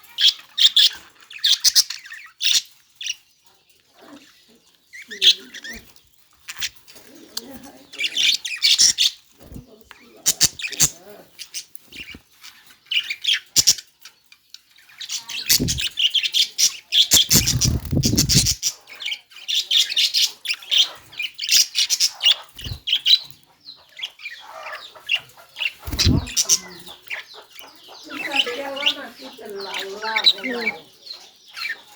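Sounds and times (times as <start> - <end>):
budgerigar chirping and chattering: 0.0 - 3.2, 4.0 - 12.2, 12.9 - 14.0, 14.9 - 31.9.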